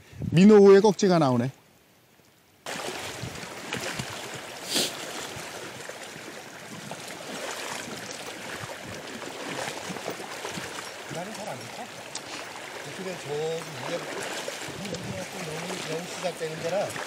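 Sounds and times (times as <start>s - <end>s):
legs wading through water: 2.6s - 17.0s
river rushing: 2.7s - 17.0s.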